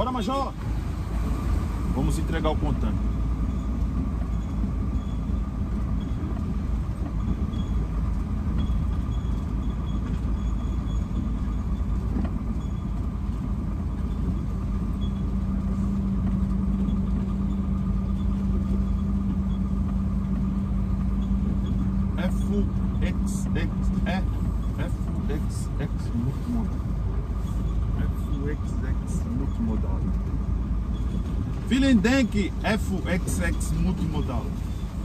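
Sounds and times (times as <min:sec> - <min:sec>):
truck diesel engine rumble: 0:00.0 - 0:35.0.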